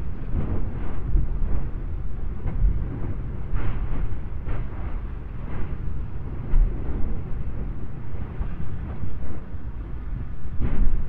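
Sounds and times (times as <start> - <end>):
lava fountain rumbling: 0.0 - 11.0.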